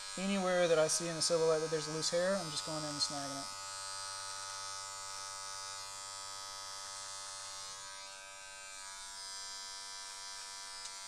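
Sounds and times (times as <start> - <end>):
hair clipper running: 0.0 - 11.0.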